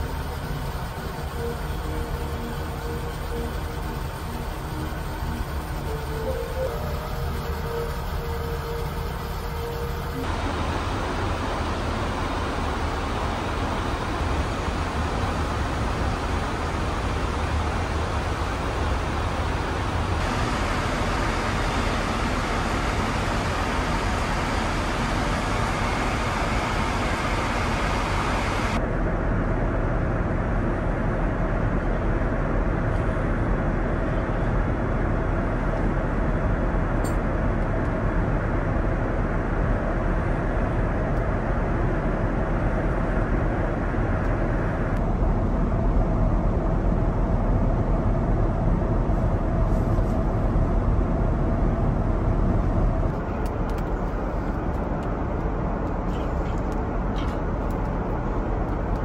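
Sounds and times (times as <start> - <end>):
airliner cabin air rush and engine hum: 0.0 - 59.0.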